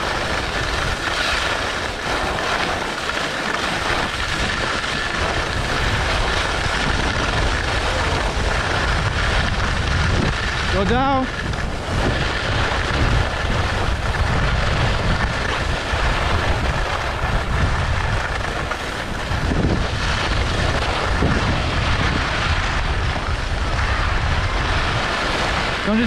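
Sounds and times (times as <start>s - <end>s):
skis scraping on snow: 0.0s - 26.0s
wind buffeting microphone: 0.0s - 26.0s.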